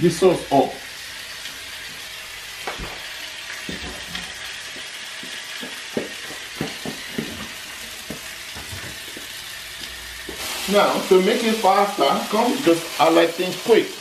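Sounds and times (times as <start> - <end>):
steak sizzling in frying pan: 0.1 - 14.0.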